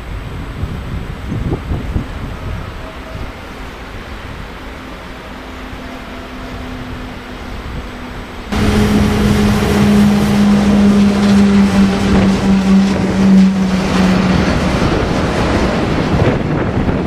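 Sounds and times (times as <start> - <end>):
electric locomotive hum: 0.0 - 17.0
freight train running: 0.0 - 17.0.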